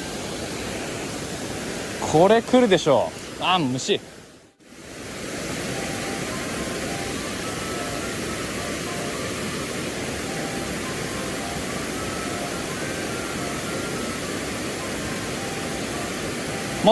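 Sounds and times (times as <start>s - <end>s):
mountain stream flowing: 0.0s - 16.9s.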